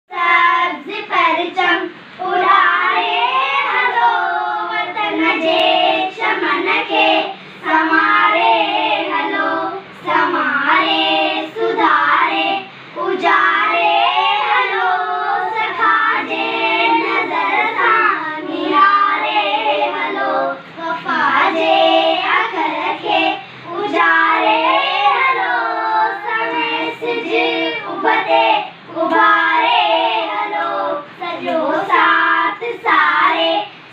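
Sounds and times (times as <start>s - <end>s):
girls singing together: 0.1s - 33.9s.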